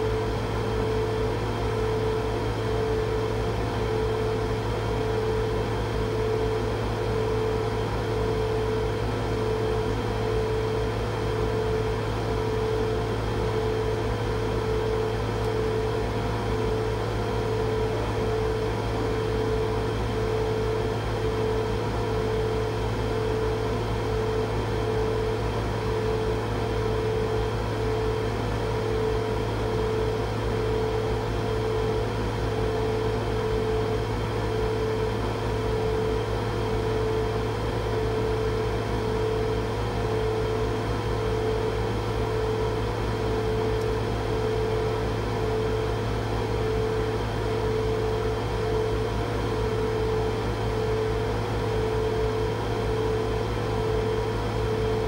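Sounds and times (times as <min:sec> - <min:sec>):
laser cutter humming: 0:00.0 - 0:55.0.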